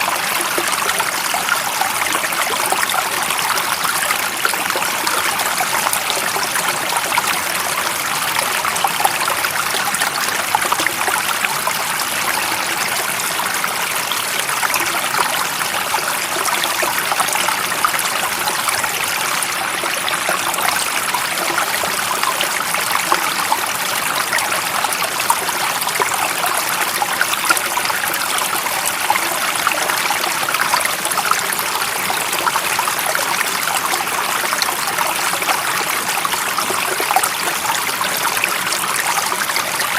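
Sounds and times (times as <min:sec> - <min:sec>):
stream water running over rocks: 0:00.0 - 0:39.9.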